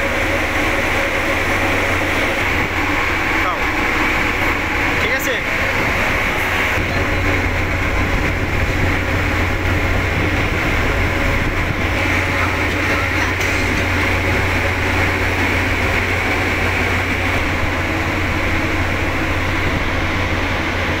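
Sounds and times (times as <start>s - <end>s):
ferry engine drone: 0.0s - 21.0s
rushing noise: 0.0s - 21.0s.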